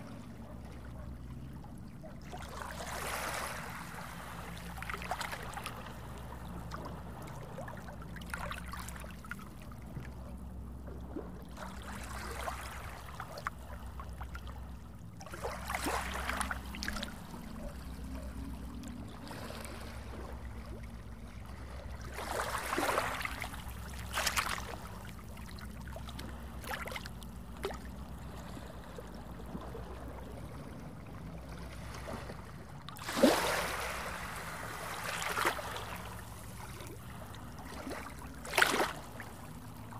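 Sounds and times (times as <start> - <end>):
small waves lapping on sand: 0.0 - 10.2, 11.1 - 39.9
low steady hum: 0.0 - 39.9.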